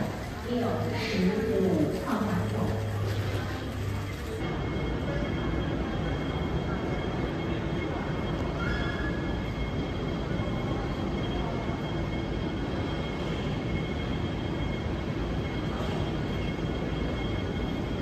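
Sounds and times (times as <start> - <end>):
faint high whining tones: 0.0 - 18.0.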